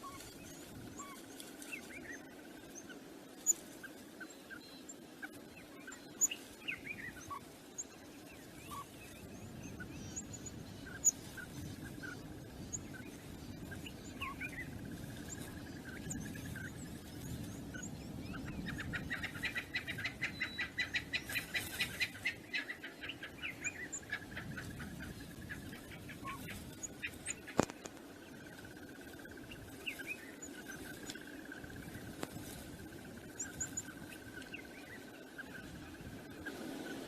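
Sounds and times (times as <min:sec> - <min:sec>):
wind noise: 0:00.0 - 0:02.7, 0:05.3 - 0:37.0.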